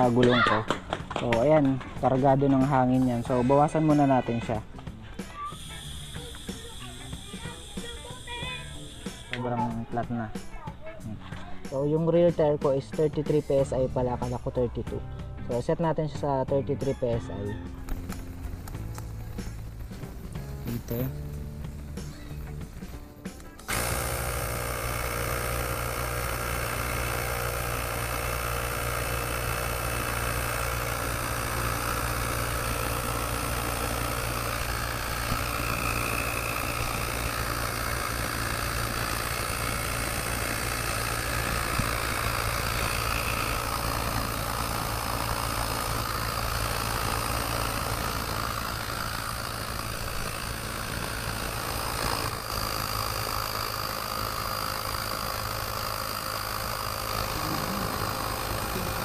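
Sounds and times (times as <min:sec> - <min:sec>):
small air compressor running: 0:00.0 - 0:15.7, 0:16.8 - 0:59.0.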